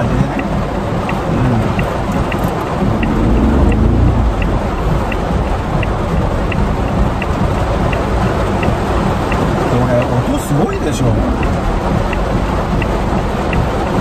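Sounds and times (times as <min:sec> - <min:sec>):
heavy rain drumming on car roof: 0:00.0 - 0:14.0
light regular ticking: 0:00.0 - 0:14.0
road and engine rumble: 0:00.0 - 0:14.0.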